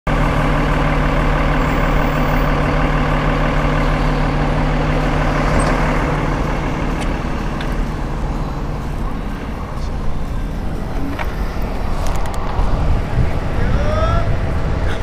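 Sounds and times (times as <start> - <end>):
large vehicle engine humming: 0.1 - 15.0
street noise: 0.1 - 15.0.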